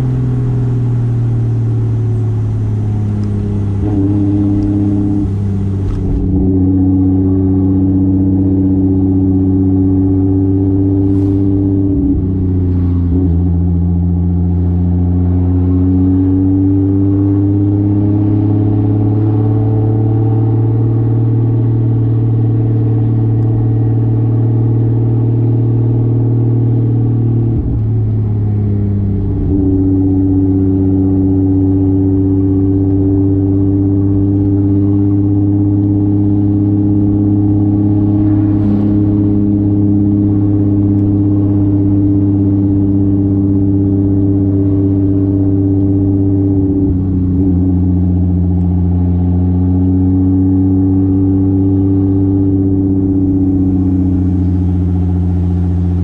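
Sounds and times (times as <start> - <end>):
car engine droning while driving: 0.0 - 56.0.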